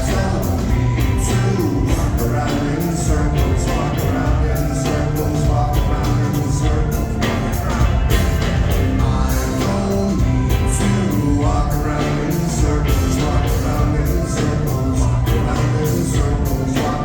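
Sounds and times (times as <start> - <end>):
bass guitar: 0.0 - 17.0
person singing: 0.0 - 17.0
rock band playing live: 0.0 - 17.0
steady drum beat: 0.0 - 17.0.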